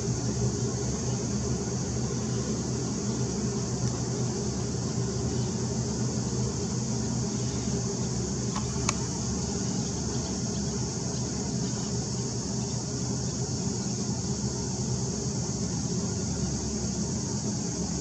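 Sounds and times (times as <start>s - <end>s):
cicadas buzzing: 0.0s - 18.0s
ship engines droning: 0.0s - 18.0s.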